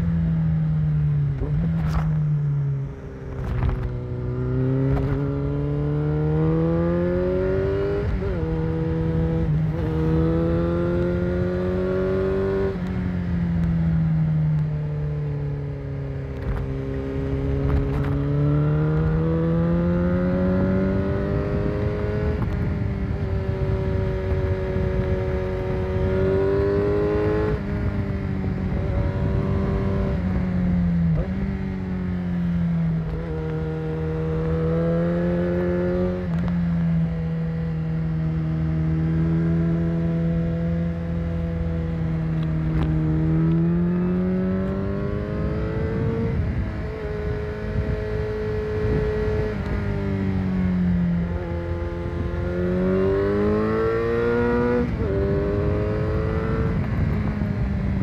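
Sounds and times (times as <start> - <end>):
low rush of wind: 0.0 - 58.0
motorcycle engine revving: 1.2 - 14.3, 15.1 - 58.0.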